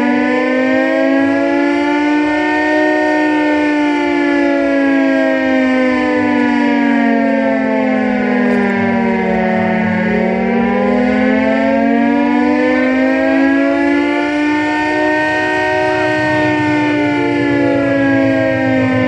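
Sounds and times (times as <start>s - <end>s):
air-raid siren wailing: 0.0s - 19.0s.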